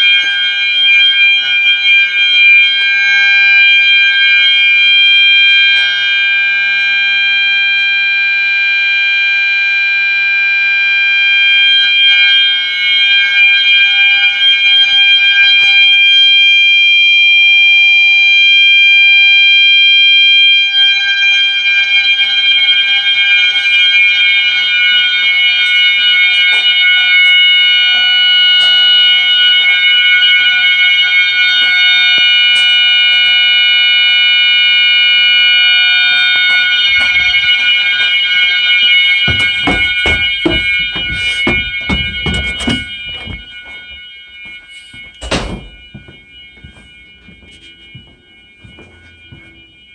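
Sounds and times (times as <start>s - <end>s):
high-pitched electronic alarm tone: 0.0s - 49.9s.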